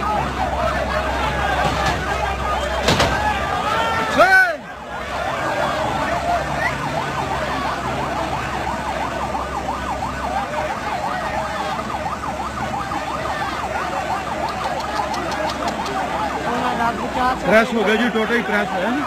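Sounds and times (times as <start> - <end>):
crowd hubbub: 0.0 - 19.0
emergency siren yelping: 0.0 - 19.0.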